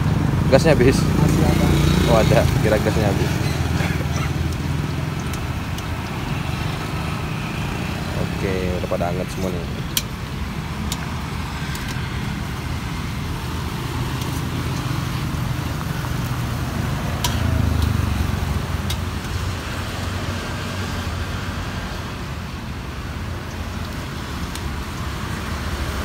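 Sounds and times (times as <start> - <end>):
road traffic rumble: 0.0 - 26.0
vehicle passing: 0.0 - 26.0.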